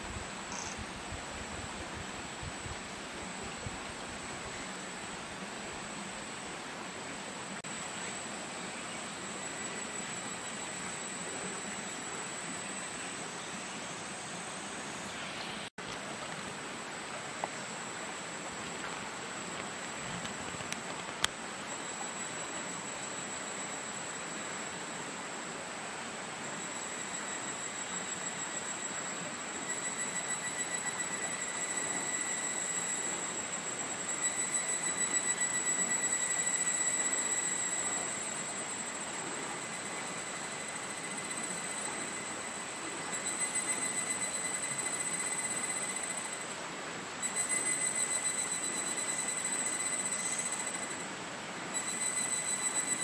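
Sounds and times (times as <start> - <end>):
thin high steady tones: 0.0 - 15.7, 16.6 - 53.0
woodland ambience hiss: 0.0 - 53.0.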